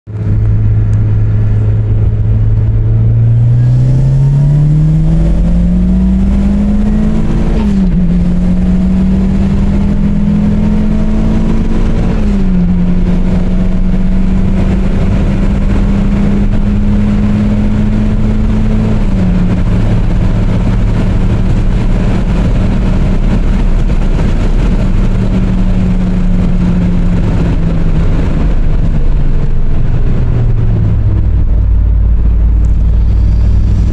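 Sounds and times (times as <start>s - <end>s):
car engine accelerating through gears: 0.1s - 33.9s.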